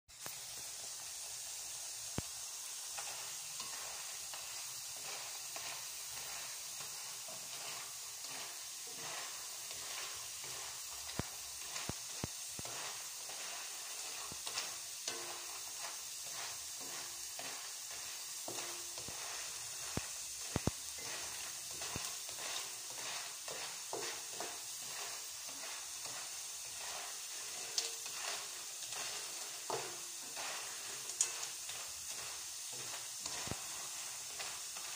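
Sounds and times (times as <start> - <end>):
chips sizzling in hot oil: 0.1 - 34.9.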